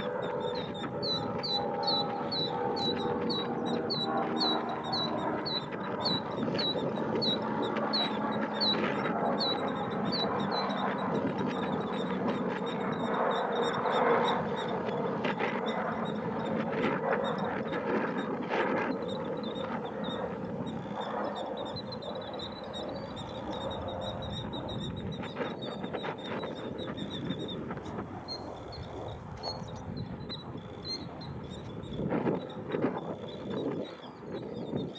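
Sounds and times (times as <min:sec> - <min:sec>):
bird calling: 0:00.0 - 0:16.6, 0:19.0 - 0:34.9.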